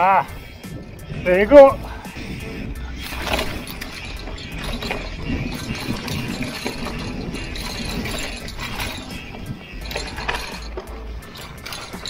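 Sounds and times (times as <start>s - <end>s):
freehub ratchet clicking: 0.4s - 12.0s
chain and frame rattle: 0.6s - 12.0s
tyre noise on dirt: 0.7s - 12.0s.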